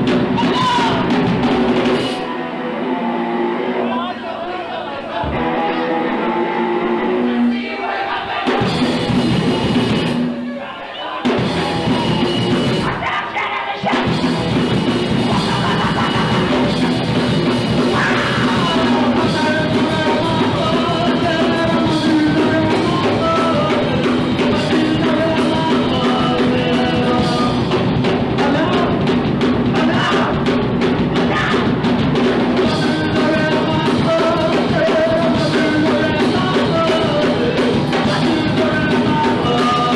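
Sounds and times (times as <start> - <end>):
punk rock band playing live: 0.0 - 10.5, 11.2 - 39.9.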